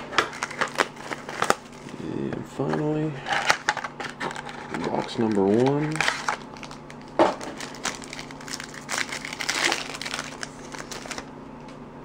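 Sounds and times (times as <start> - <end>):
packaging torn and crinkled: 0.0 - 2.0, 3.4 - 11.3.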